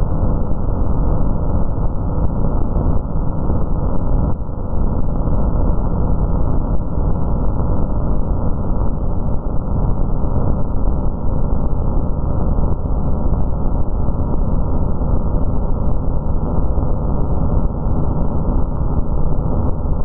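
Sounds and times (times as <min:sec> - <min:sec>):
loud low computer-generated noise: 0:00.0 - 0:20.0.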